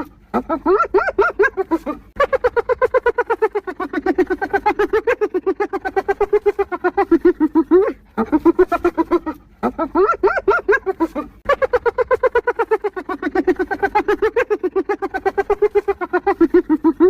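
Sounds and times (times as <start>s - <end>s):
hyena giggling: 0.0s - 17.0s.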